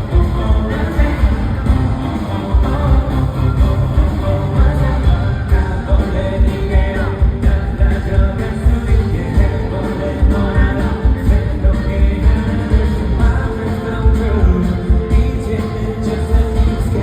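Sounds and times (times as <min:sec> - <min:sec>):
man singing lead vocal: 0:00.0 - 0:17.0
pop-rock band playing: 0:00.0 - 0:17.0.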